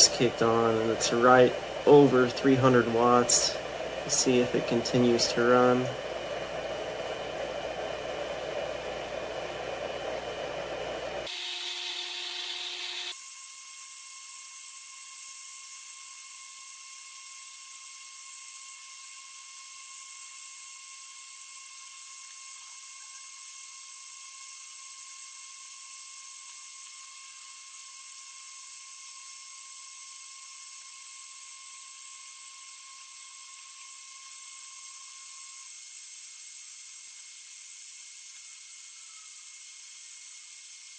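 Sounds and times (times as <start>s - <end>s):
power inverter whine and hiss: 0.0s - 40.9s.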